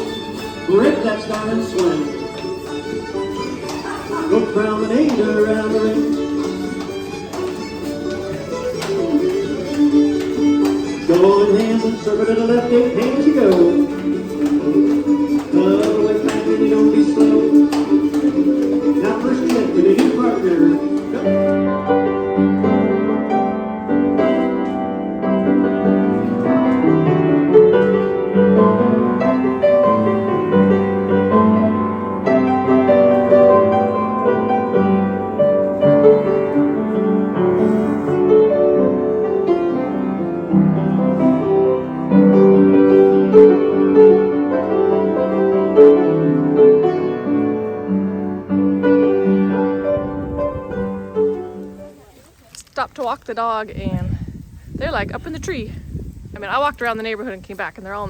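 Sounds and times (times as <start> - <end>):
piano playing chords and melody: 0.0 - 52.2.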